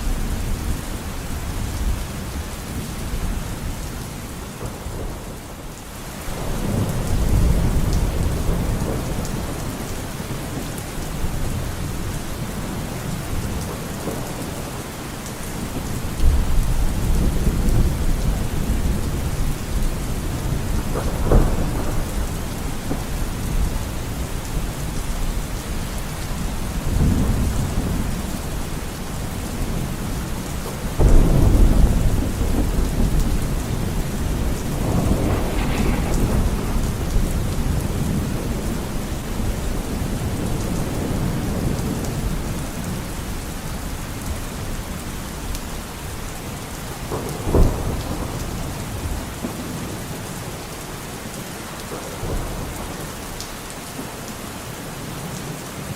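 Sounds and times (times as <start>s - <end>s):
steady rain: 0.0s - 55.9s
thunder rumbling: 1.4s - 45.0s, 46.8s - 50.5s.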